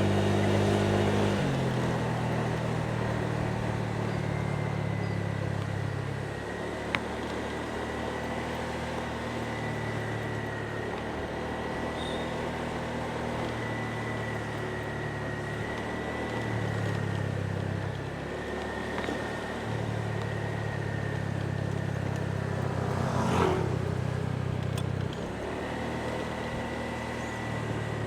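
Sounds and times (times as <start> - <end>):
motorbike engine humming: 0.0 - 28.0
road noise: 0.0 - 28.0.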